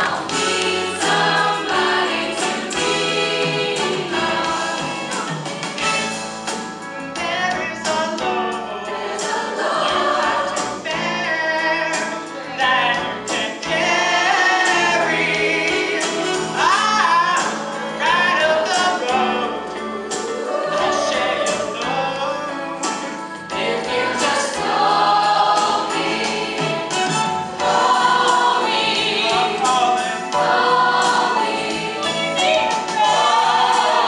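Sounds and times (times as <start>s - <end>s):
choir singing gospel song: 0.0s - 34.0s.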